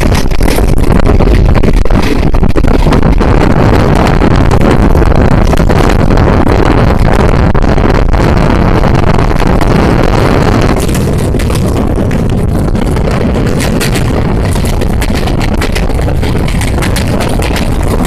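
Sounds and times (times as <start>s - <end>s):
train carriage rattling: 0.0s - 7.0s, 8.6s - 18.0s
wind buffeting microphone: 0.0s - 18.0s.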